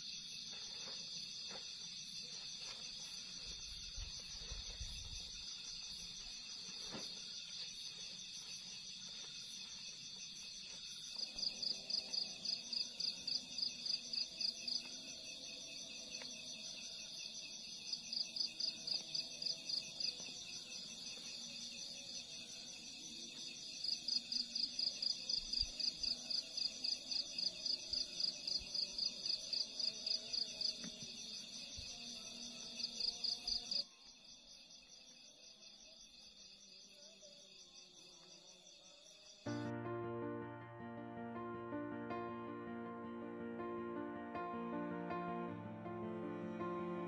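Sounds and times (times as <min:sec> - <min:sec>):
rapid pulsed insect chirps: 0:00.0 - 0:39.7
insects droning: 0:00.0 - 0:47.0.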